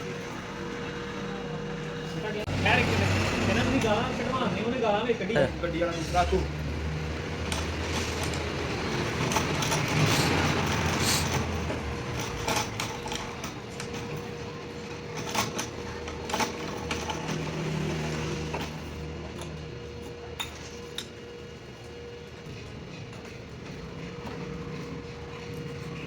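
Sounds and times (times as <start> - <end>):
lathe motor hum: 0.0 - 26.0.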